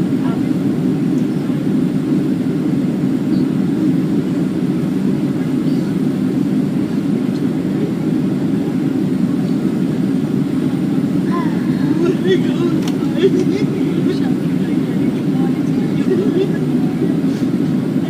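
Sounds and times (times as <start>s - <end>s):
jet engine cabin rumble: 0.0s - 18.0s.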